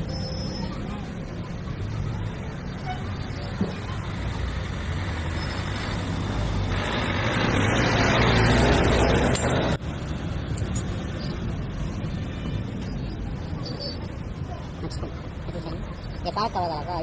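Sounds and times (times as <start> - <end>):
motor vehicle running: 0.0 - 16.8
low traffic hum: 0.0 - 17.0.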